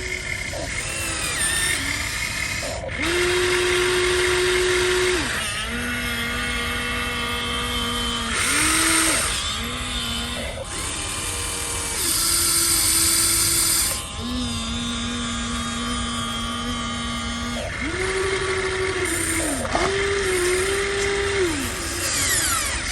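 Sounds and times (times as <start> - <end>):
small electric motors whining: 0.0 - 22.9.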